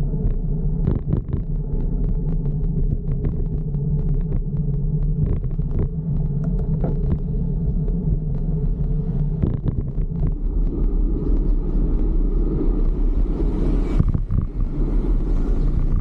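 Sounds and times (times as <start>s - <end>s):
bicycle riding noise: 0.0s - 16.0s
road traffic rumble: 0.0s - 16.0s.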